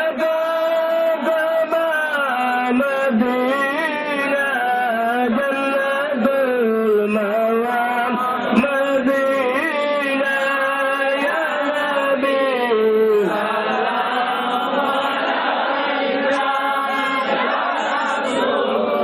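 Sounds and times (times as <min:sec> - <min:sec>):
devotional chanting voice: 0:00.0 - 0:19.0.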